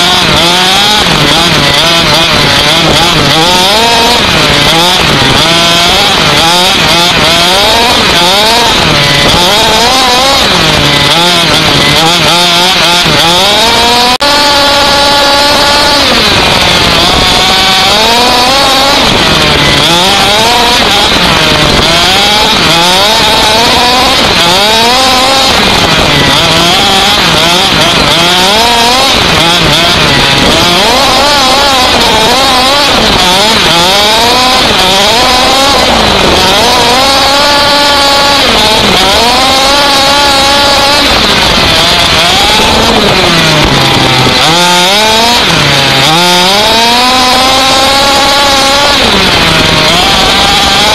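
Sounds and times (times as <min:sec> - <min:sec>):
small engine revving: 0:00.0 - 0:50.9.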